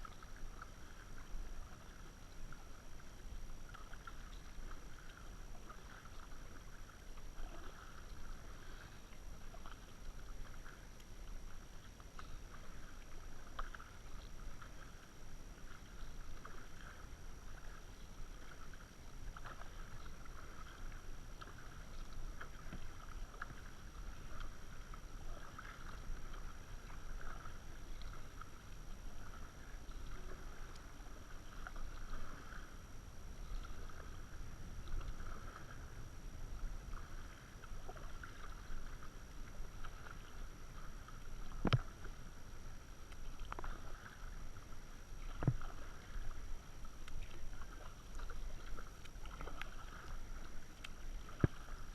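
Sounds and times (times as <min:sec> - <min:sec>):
paddle splashing water: 0:00.0 - 0:51.9.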